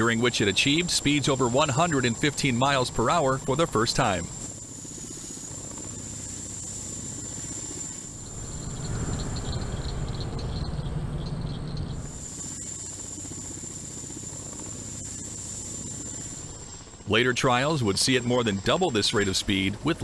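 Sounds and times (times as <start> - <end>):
helicopter high whine: 0.0 - 20.0
helicopter rotor beat: 0.0 - 20.0.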